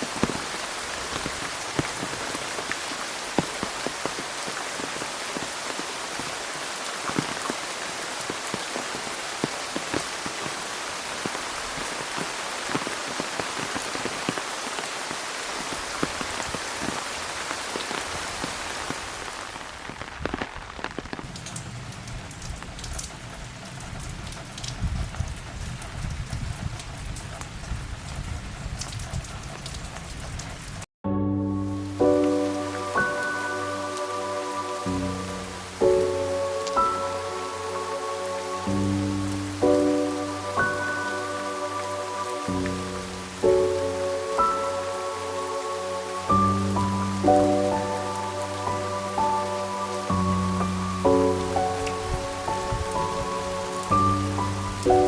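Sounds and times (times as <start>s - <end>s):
heavy rain falling: 0.0s - 30.9s, 31.5s - 55.0s
raindrops striking an umbrella: 0.0s - 30.9s, 31.7s - 55.0s.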